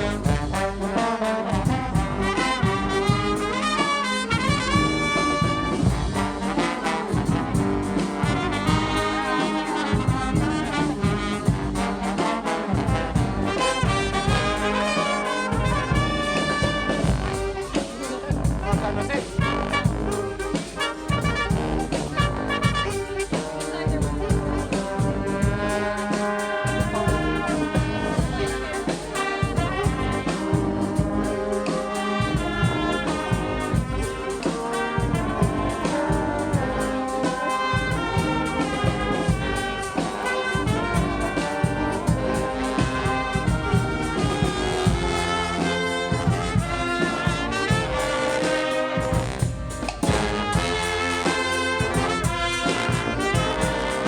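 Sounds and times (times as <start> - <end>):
drums with steady beat: 0.0 - 54.0
trumpets and trombones: 0.0 - 54.0.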